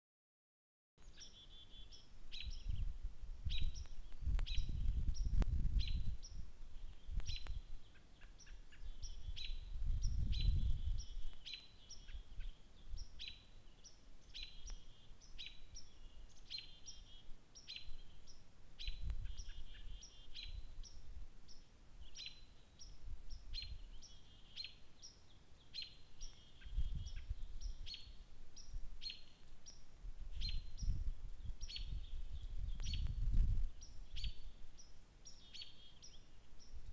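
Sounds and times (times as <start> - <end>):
birds singing: 1.0 - 36.9.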